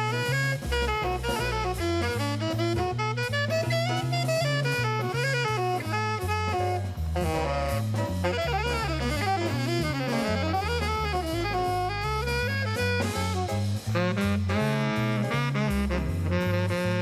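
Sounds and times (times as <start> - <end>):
drum kit: 0.0 - 17.0
saxophone melody: 0.0 - 17.0
walking bass line: 0.0 - 17.0.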